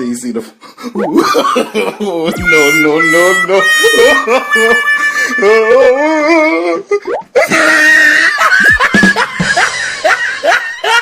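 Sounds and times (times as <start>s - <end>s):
person laughing: 1.0s - 2.8s, 3.8s - 11.0s.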